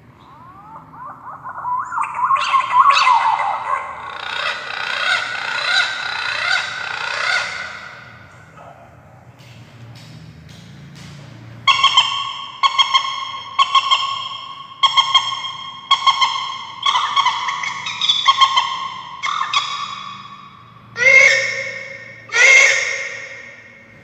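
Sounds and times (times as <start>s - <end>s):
ringing recorded bird call: 0.0s - 8.8s, 11.7s - 24.0s.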